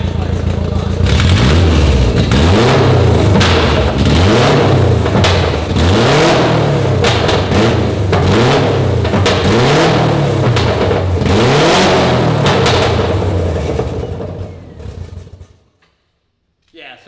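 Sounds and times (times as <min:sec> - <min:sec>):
car engine revving: 0:00.0 - 0:15.6
exhaust pops and crackles: 0:00.0 - 0:15.8.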